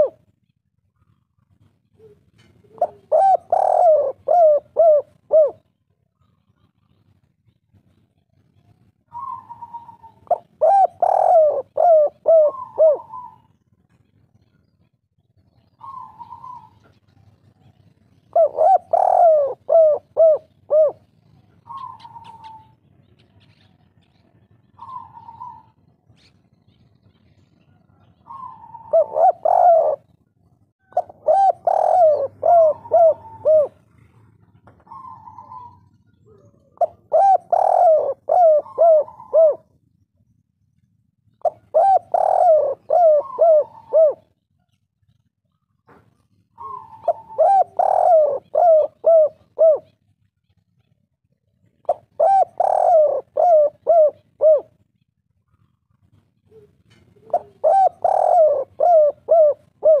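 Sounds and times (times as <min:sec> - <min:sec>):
dove cooing: 0:00.0 - 0:00.4, 0:01.0 - 0:14.8, 0:15.5 - 0:39.8, 0:41.4 - 0:51.0, 0:51.6 - 1:00.0.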